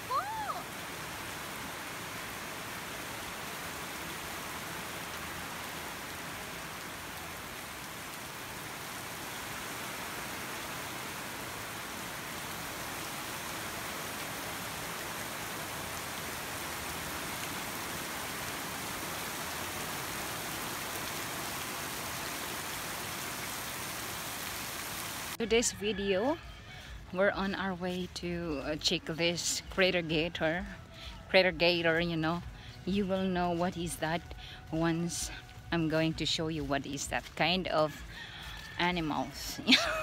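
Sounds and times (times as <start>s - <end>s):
rain falling on lawn and puddles: 0.0s - 40.0s.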